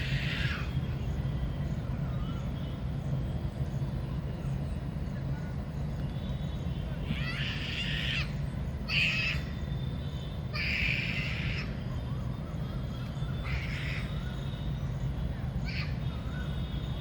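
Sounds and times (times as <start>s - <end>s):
harsh bird calls: 0.0s - 3.3s, 6.6s - 17.0s.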